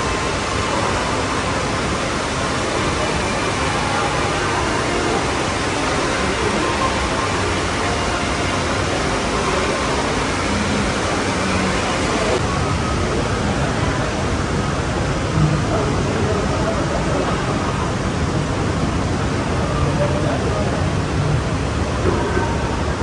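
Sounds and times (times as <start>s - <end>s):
shopping mall background hiss: 0.0s - 23.0s.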